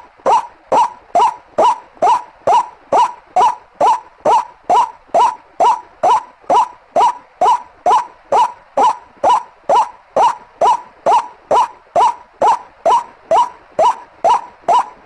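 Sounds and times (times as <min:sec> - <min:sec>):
bird call upward-bending note: 0:00.2 - 0:15.0.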